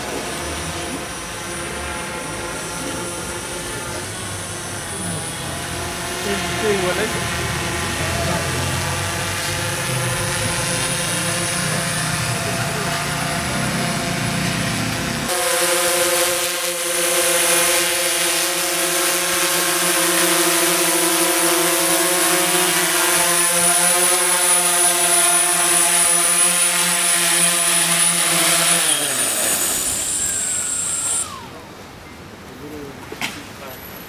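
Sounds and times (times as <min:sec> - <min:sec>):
drone propellers buzzing hum: 0:00.0 - 0:31.7.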